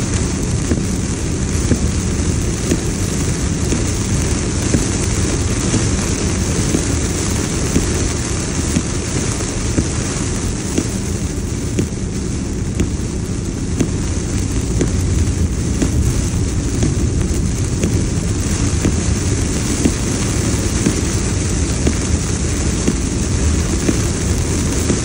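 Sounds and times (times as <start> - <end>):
heavy rain on car roof: 0.0 - 25.0
road and tyre noise: 0.0 - 25.0.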